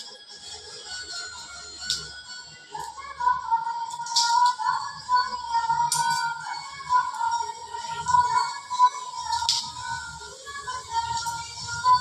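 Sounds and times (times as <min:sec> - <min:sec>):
music with choppy bass line: 0:00.0 - 0:12.0.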